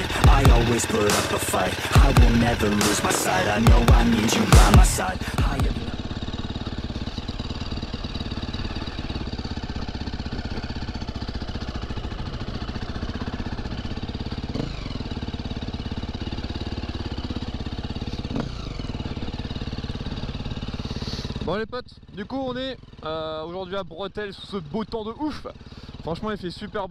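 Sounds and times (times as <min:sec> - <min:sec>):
motocross bike engine running: 0:00.0 - 0:26.9.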